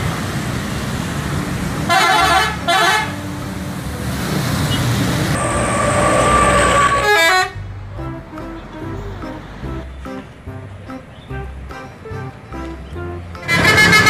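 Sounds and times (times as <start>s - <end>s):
traffic noise: 0.0s - 14.0s
bus musical horns: 1.8s - 14.0s.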